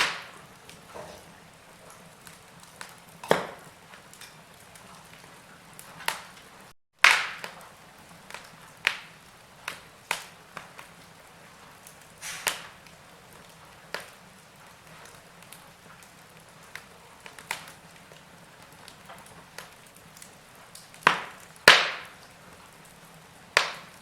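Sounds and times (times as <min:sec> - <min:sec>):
wood fire popping: 0:00.0 - 0:24.0.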